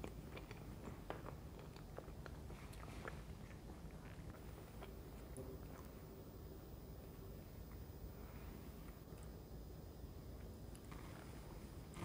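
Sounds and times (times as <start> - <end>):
chewing soft cake: 0.0 - 12.0.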